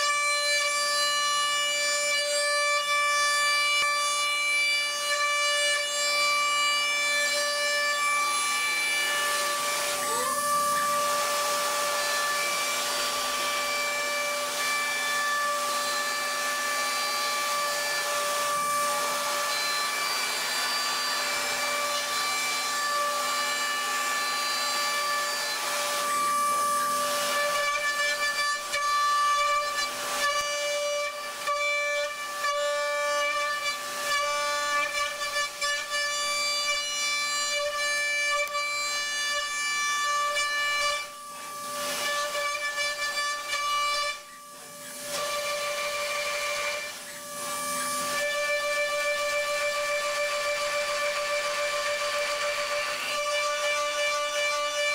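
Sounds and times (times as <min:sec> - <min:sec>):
milling machine spindle whine: 0:04.8 - 0:35.6, 0:38.4 - 0:54.9.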